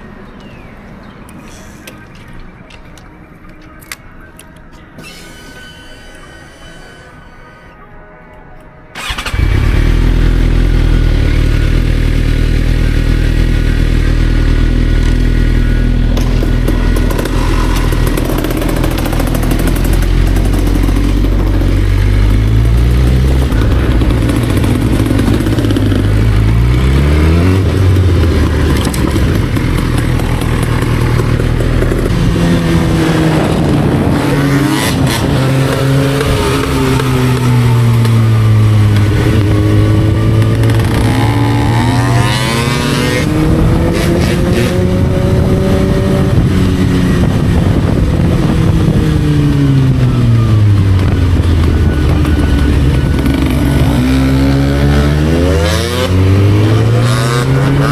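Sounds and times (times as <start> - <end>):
motorcycle engine accelerating: 9.0 - 57.9.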